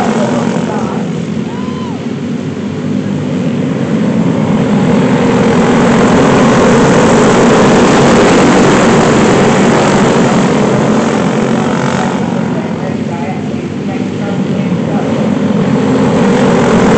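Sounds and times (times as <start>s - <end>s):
go-kart engine running hard: 0.0s - 16.9s.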